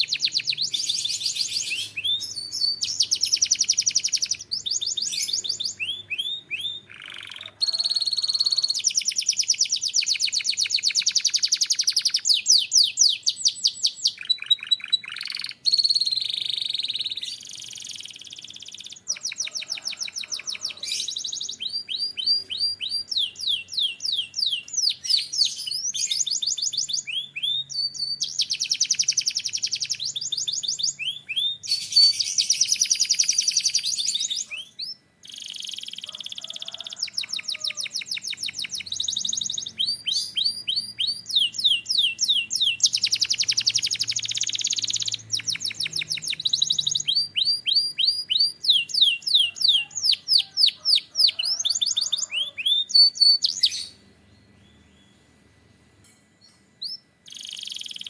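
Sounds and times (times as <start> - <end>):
canary singing: 0.0 - 55.3, 56.0 - 58.0.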